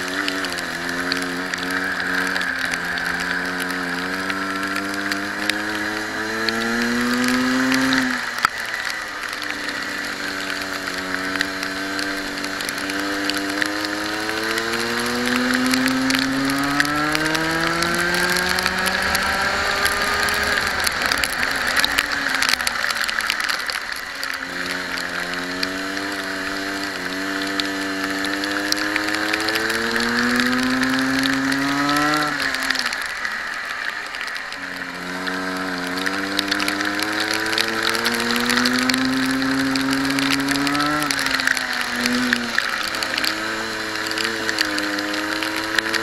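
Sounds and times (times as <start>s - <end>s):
kart engine revving: 0.0s - 46.0s
wind and spray hiss: 0.0s - 46.0s.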